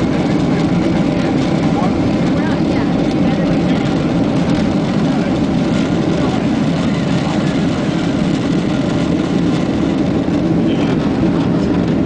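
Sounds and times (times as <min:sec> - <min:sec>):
jet engines roaring inside cabin: 0:00.0 - 0:12.0.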